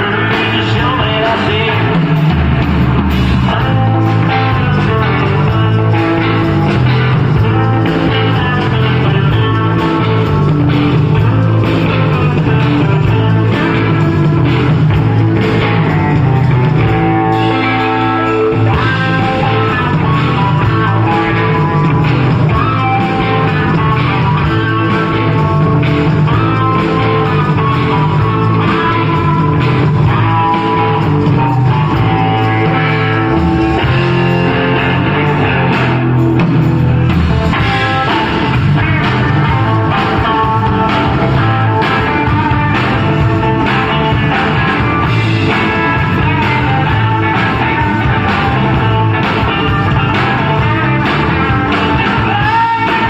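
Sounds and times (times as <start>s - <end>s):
rock music: 0.0s - 53.0s.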